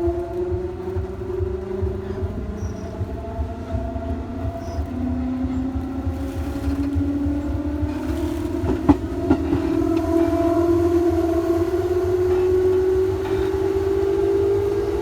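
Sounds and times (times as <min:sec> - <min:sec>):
electric train motor whine: 0:00.0 - 0:15.0
train wheels clacking over rail joints: 0:00.0 - 0:15.0.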